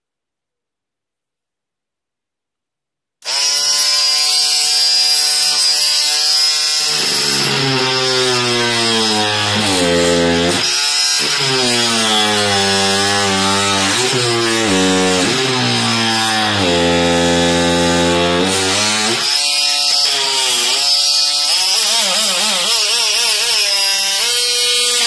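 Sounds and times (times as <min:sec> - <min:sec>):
oscillating multi-tool buzzing: 0:03.2 - 0:25.0
saw blade cutting wood: 0:03.2 - 0:25.0.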